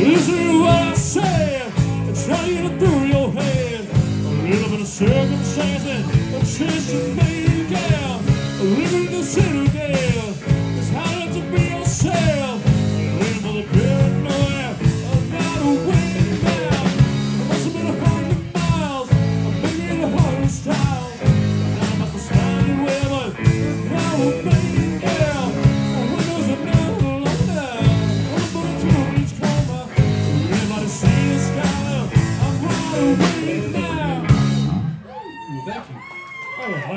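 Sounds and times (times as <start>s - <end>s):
drum kit: 0.0s - 35.1s
bass guitar: 0.0s - 35.6s
electric guitars: 0.0s - 36.9s.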